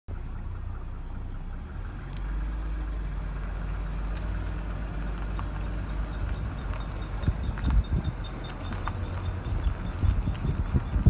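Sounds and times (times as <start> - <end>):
low car drone: 0.1 - 11.0.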